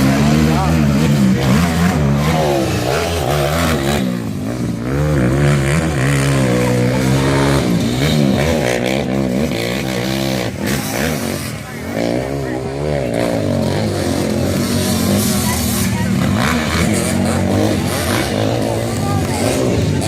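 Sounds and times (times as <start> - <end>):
atv engines revving: 0.0 - 20.0.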